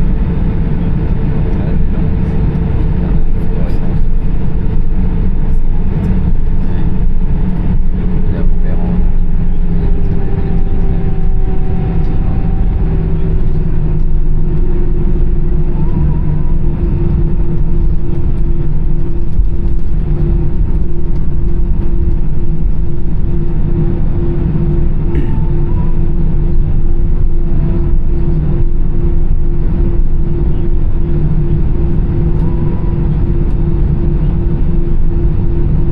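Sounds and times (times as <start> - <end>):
jet engines heard from cabin: 0.0 - 35.9.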